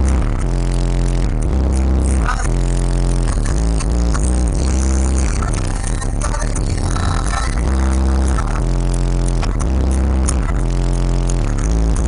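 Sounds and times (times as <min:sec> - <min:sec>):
bass-heavy electronic music: 0:00.0 - 0:12.0.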